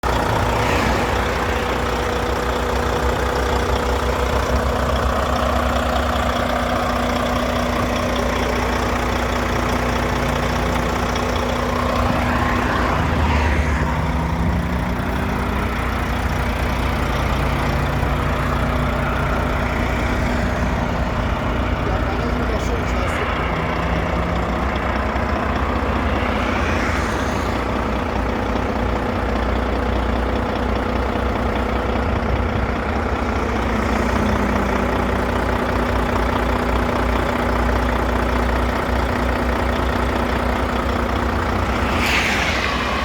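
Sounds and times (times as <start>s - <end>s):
diesel truck engine idling: 0.0s - 43.0s.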